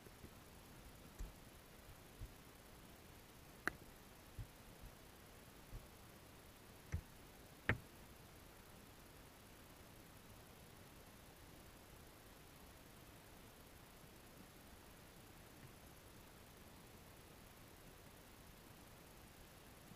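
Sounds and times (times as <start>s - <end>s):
quiet steady hiss: 0.0s - 19.9s.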